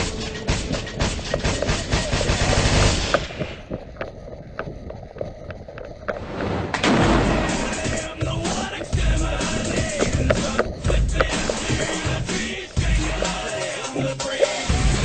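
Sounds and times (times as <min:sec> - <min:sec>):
rustling movement: 0:00.0 - 0:15.0
sharp clicks: 0:00.0 - 0:15.0
wind buffeting microphone: 0:00.0 - 0:15.0.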